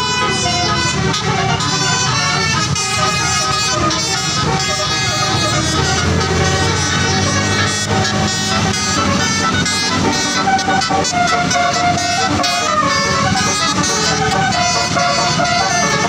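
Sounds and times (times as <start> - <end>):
bus horn playing a tune: 0.0 - 16.0.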